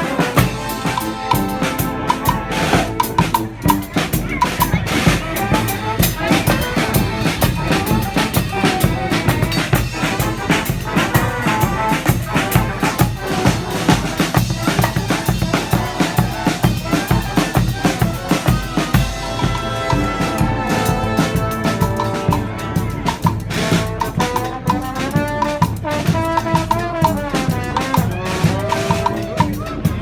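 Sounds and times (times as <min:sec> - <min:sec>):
brass band playing: 0:00.0 - 0:30.0
snare and bass drum: 0:00.0 - 0:30.0.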